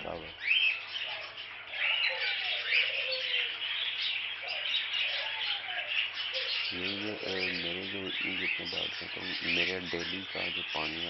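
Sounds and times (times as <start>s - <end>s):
budgerigars chattering and chirping: 0.0s - 11.0s.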